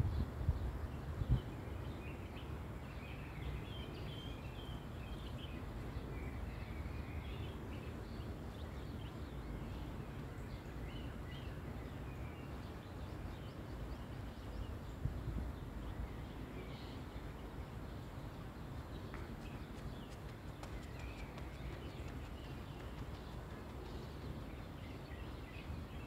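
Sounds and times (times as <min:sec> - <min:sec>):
small birds chirping: 0:01.3 - 0:26.0.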